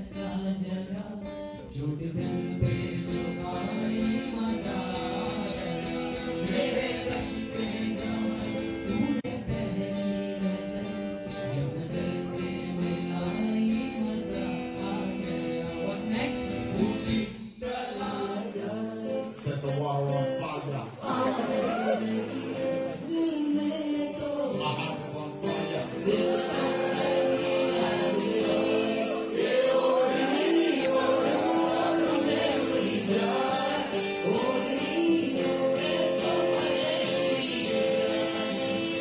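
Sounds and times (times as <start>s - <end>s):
men singing into microphones: 0.0s - 15.4s, 16.8s - 39.0s
strummed acoustic guitar: 0.0s - 39.0s.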